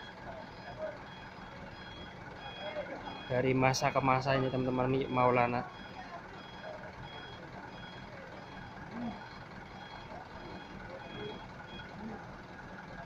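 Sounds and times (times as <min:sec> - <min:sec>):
low engine rumble: 0:00.0 - 0:13.0
truck reversing beeper: 0:00.0 - 0:13.0.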